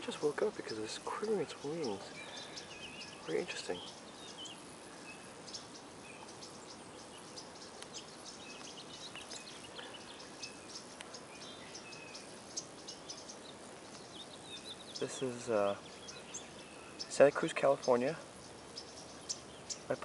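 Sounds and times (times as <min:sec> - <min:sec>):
small bird chirps: 0:00.0 - 0:20.0
steady background hiss: 0:00.0 - 0:20.0.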